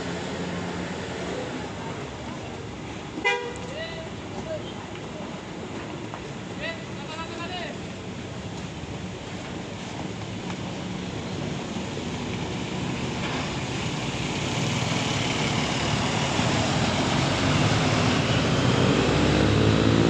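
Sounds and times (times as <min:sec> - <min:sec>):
bus engine: 0:00.0 - 0:20.0
road noise: 0:00.0 - 0:20.0.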